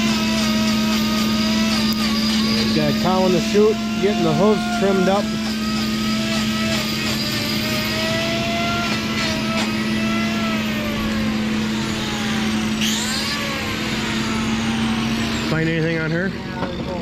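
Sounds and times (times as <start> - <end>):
electric hum: 0.0 - 16.6
grinder cutting a hoof: 0.0 - 17.0.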